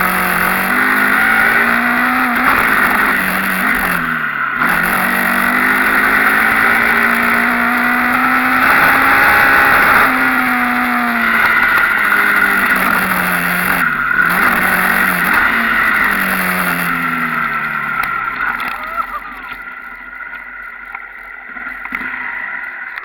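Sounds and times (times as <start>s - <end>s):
dirt bike engine revving: 0.0s - 19.6s.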